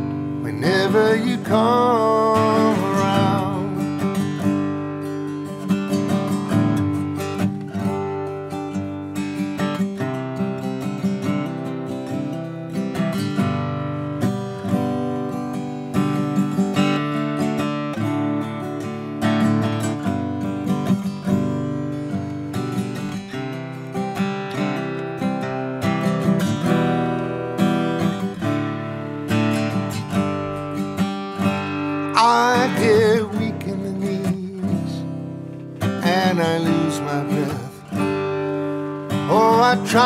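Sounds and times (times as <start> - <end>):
acoustic guitar strummed and picked: 0.0 - 40.0.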